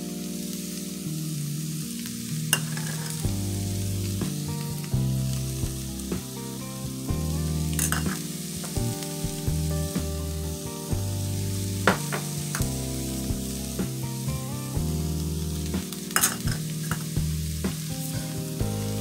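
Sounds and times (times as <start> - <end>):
background music with bass line: 0.0 - 19.0
vegetables sizzling in a pan: 0.0 - 19.0.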